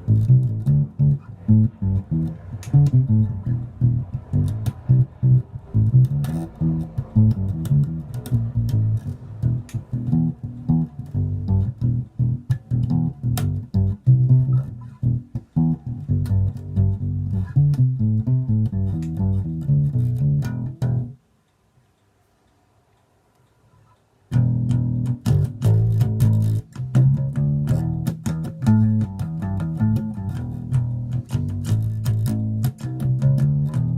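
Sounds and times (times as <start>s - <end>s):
electric bass plucked notes: 0.0s - 21.2s, 24.3s - 33.9s.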